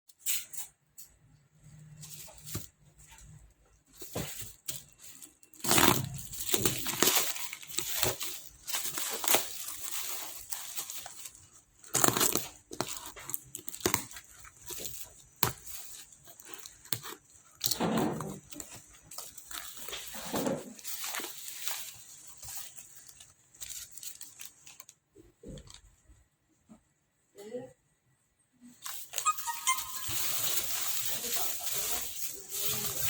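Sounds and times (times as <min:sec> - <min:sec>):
plastic packaging crinkling and tearing: 0:01.9 - 0:25.9, 0:28.8 - 0:33.0.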